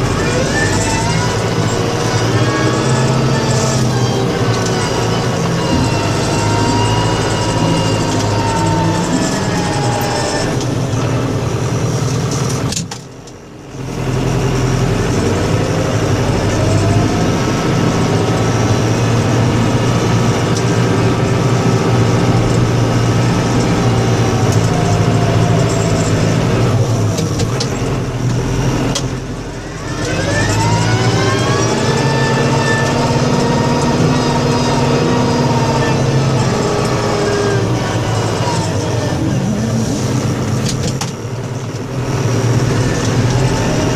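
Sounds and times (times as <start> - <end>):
snow plow engine running: 0.0 - 43.9.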